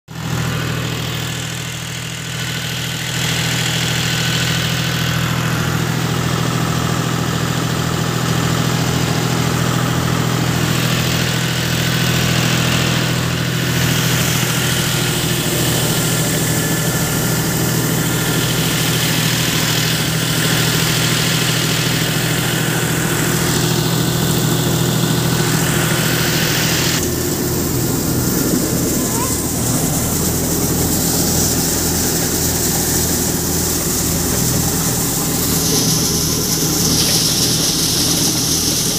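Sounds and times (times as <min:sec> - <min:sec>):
tractor and thresher drone: 0:00.1 - 0:38.9.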